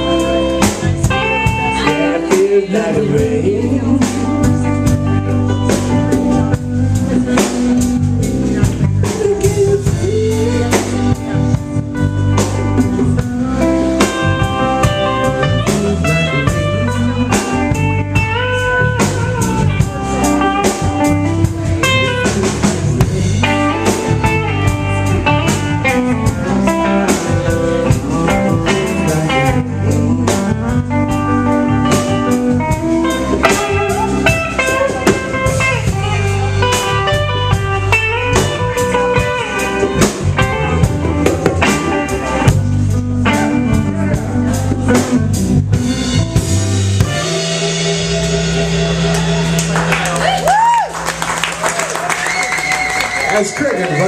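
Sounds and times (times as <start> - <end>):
lead guitar with sliding notes: 0.0 - 50.0
drum kit steady beat: 0.0 - 53.8.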